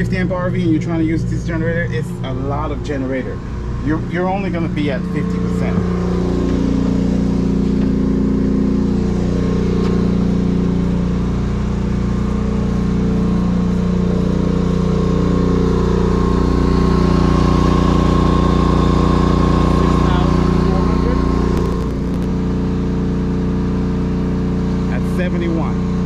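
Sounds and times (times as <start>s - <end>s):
generator engine humming: 0.0s - 26.0s.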